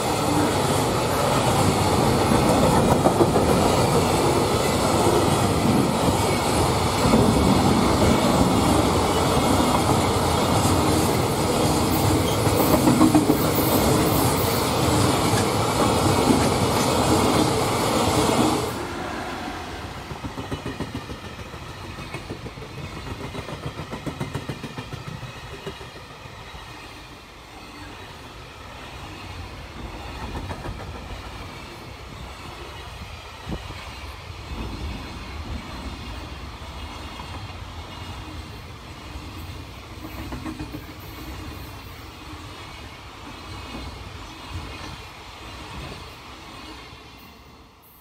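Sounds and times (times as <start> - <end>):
steel wheels rushing on rail: 0.0 - 48.0.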